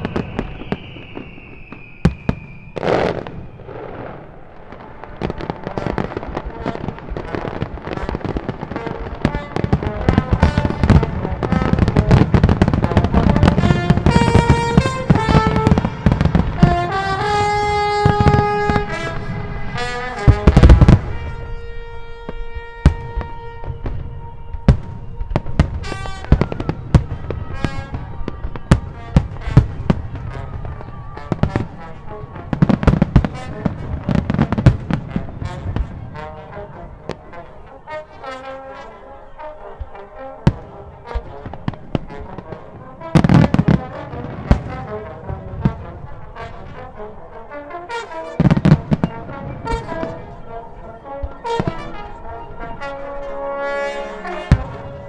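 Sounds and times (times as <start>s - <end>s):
falling firework whistle: 0.0s - 46.7s, 47.9s - 55.0s
fireworks bursts and crackling: 0.0s - 55.0s
show music: 5.5s - 55.0s.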